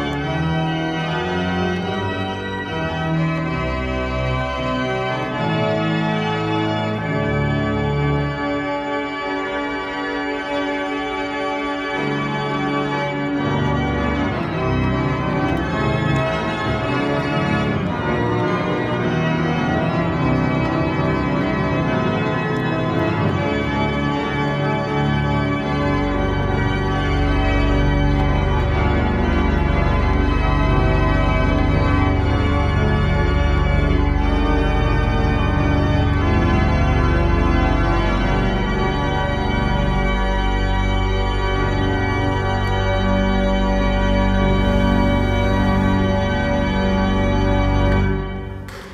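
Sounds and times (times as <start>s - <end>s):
deep organ pedal bass: 0.0s - 48.9s
organ playing sustained chords: 0.0s - 48.9s.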